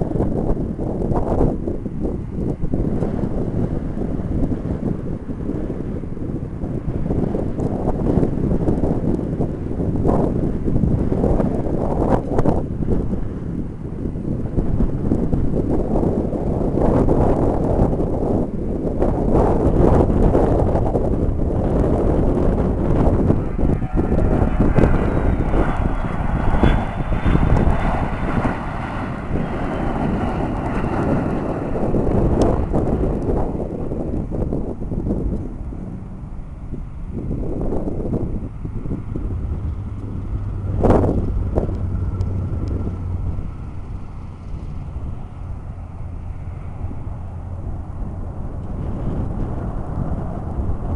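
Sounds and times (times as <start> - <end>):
jet engines running with high whine: 0.0 - 50.9
wind buffeting on microphone: 0.0 - 50.9.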